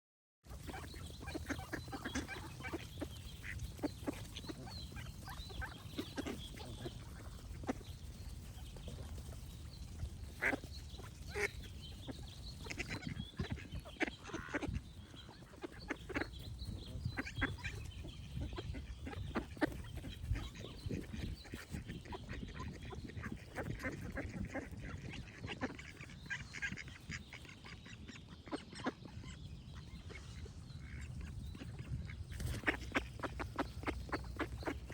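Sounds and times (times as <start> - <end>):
ducks quacking: 0.5 - 34.9.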